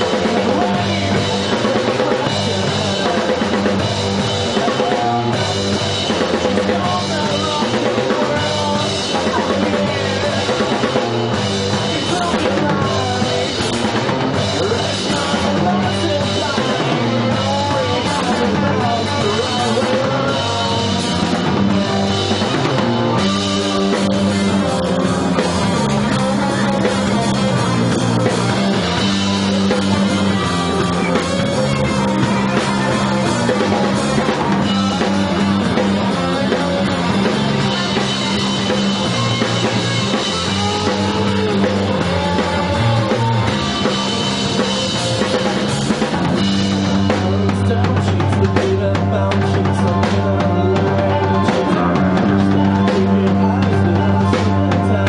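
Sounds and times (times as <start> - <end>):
bass guitar: 0.0 - 55.0
drum kit: 0.0 - 55.0
electric guitars: 0.0 - 55.0.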